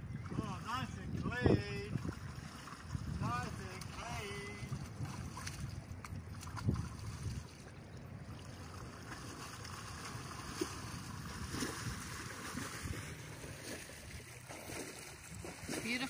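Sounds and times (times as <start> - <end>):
rushing water: 0.0 - 16.0
water splashing and sloshing: 0.0 - 16.0
wind rumble on microphone: 0.0 - 16.0.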